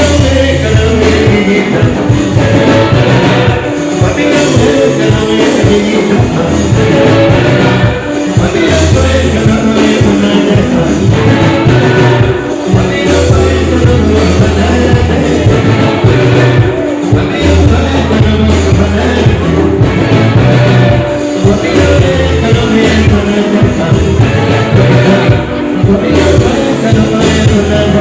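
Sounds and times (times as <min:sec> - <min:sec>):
heavy bass line: 0:00.0 - 0:28.0
live band music: 0:00.0 - 0:28.0
person singing: 0:00.0 - 0:28.0.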